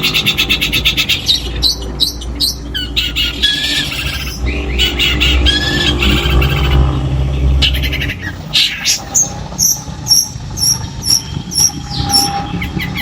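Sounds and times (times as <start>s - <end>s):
bird singing: 0.0s - 13.0s
low rumble: 0.0s - 13.0s.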